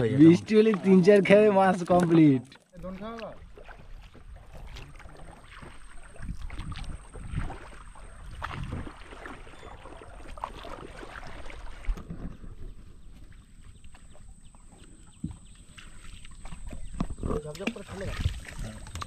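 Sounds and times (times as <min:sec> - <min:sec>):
water splashing around boat: 0:00.0 - 0:19.0.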